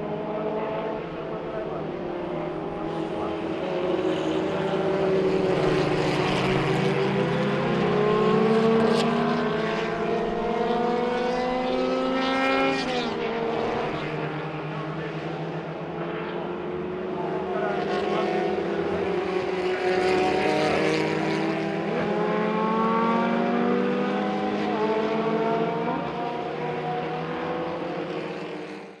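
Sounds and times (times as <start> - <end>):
racing car engines accelerating: 0.0 - 29.0.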